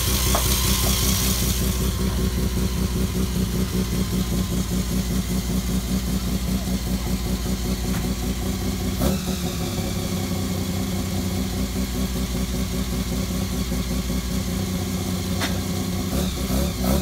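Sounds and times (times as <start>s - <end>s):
rotary engine idling: 0.0s - 16.2s.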